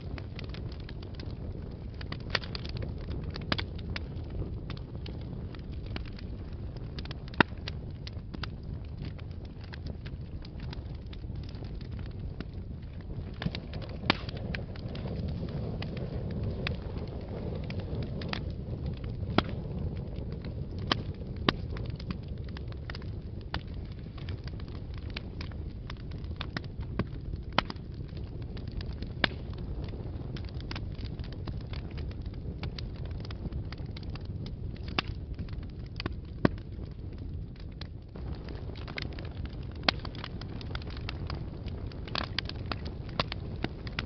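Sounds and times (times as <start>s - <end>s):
fire crackling and popping: 0.0s - 44.0s
fire rumbling: 0.0s - 44.0s.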